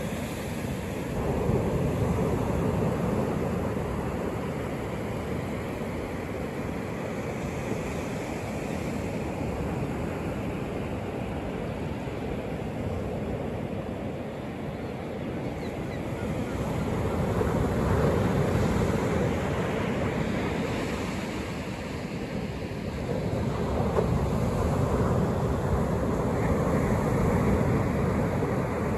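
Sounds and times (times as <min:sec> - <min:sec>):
surf breaking on a beach: 0:00.0 - 0:28.9.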